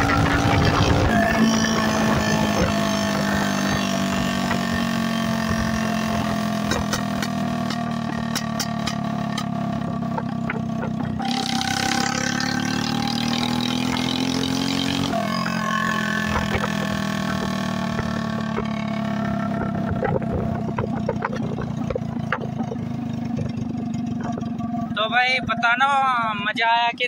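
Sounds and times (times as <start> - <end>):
motorcycle with loud open exhaust: 0.0 - 27.0.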